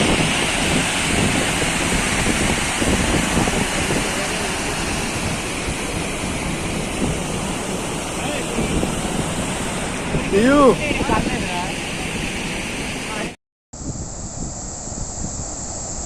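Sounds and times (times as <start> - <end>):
waterfall rushing: 0.0 - 13.4
wind buffeting microphone: 0.0 - 16.0.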